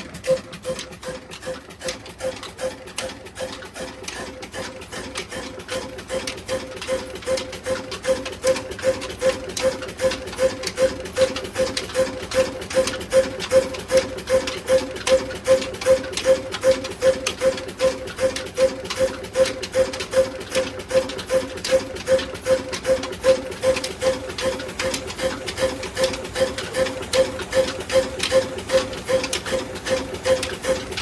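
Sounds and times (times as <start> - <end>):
diesel engine driving a flour mill: 0.0 - 31.0.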